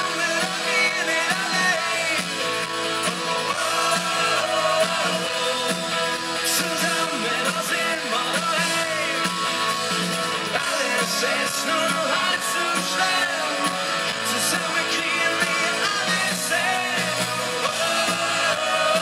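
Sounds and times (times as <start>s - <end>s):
drums: 0.0s - 19.0s
electric guitars: 0.0s - 19.0s
person singing: 0.0s - 19.0s.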